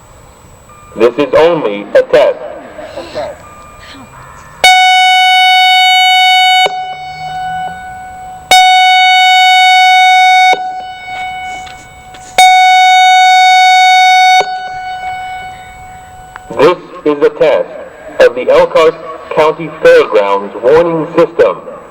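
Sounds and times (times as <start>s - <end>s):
warning siren steady tones: 0.0s - 21.9s.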